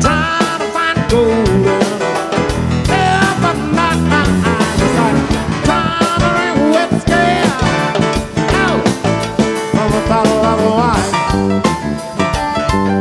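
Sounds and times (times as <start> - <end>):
man singing lead vocal: 0.0 - 11.4
drum kit: 0.0 - 13.0
live rock band playing: 0.0 - 13.0
piano: 0.0 - 13.0.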